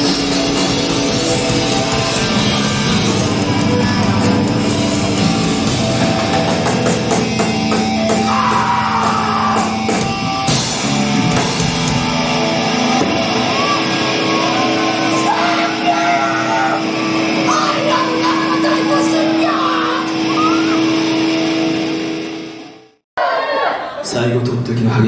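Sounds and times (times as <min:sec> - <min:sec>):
live punk rock band: 0:00.0 - 0:22.6
long held guitar tone: 0:00.0 - 0:23.0.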